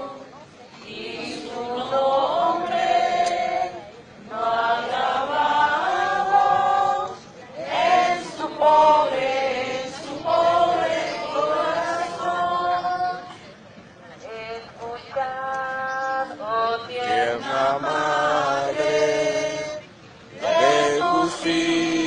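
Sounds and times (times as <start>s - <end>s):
nuns chanting a sung prayer: 0.0s - 13.5s, 14.1s - 22.0s.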